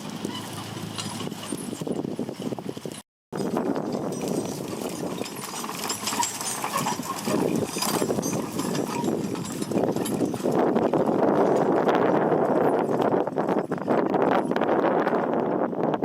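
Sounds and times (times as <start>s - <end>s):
machine clattering and rattling: 0.0s - 14.6s
hooves clopping: 0.0s - 15.6s.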